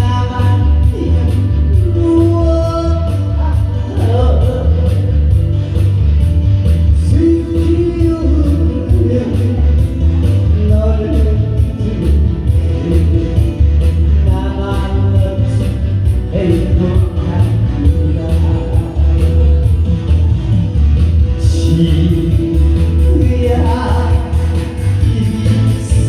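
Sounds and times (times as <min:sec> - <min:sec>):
person singing: 0:00.0 - 0:06.0, 0:06.9 - 0:20.2, 0:21.3 - 0:26.0
backing track with bass and beat: 0:00.0 - 0:26.0.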